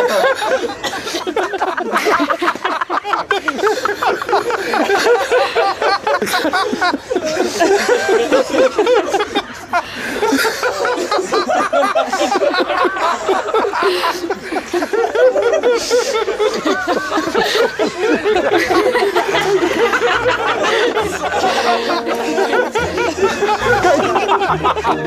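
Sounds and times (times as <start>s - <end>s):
group of people laughing: 0.0s - 25.0s.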